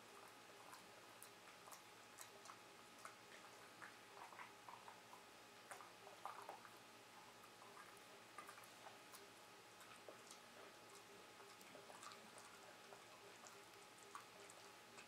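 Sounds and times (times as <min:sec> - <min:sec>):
dog chewing: 0:00.2 - 0:15.0.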